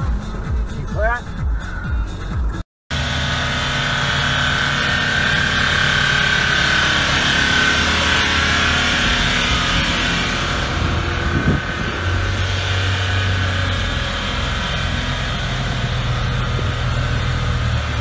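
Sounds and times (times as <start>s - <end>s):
bus engine deep hum: 0.0s - 18.0s
vehicle engine hum: 0.0s - 18.0s
high whine: 2.9s - 18.0s.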